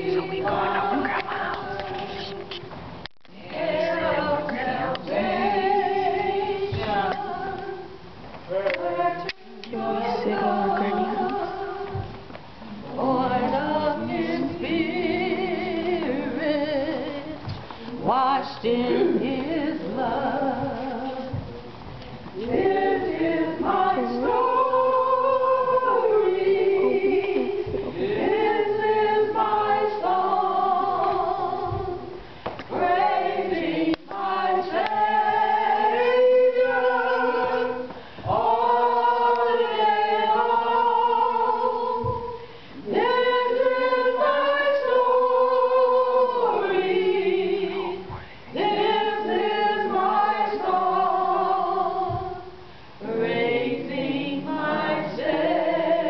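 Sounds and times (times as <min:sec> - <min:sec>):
group singing a hymn: 0:00.0 - 0:02.7, 0:03.3 - 0:56.0.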